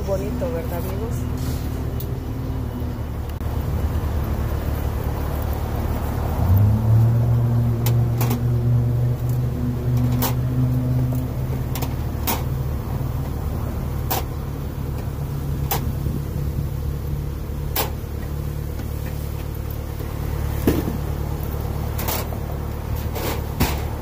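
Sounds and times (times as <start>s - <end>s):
low motor rumble: 0.0s - 24.0s.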